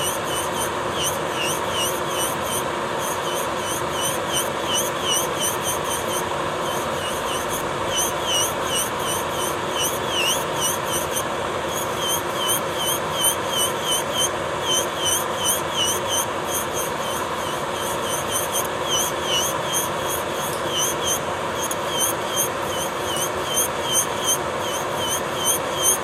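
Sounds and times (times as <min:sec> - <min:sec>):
electric nail drill grinding: 0:00.0 - 0:26.0
scratchy chirp: 0:00.0 - 0:26.0.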